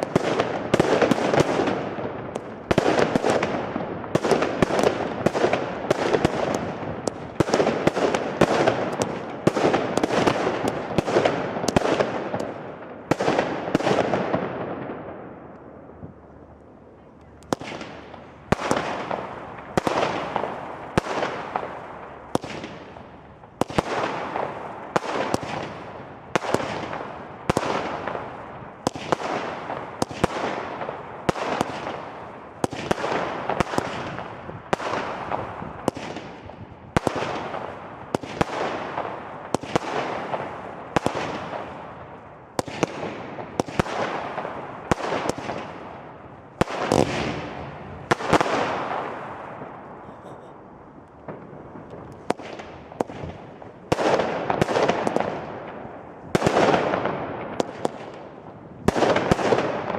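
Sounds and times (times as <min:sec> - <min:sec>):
firework bangs with hiss: 0:00.0 - 0:15.0, 0:17.5 - 0:50.5, 0:51.2 - 0:59.9.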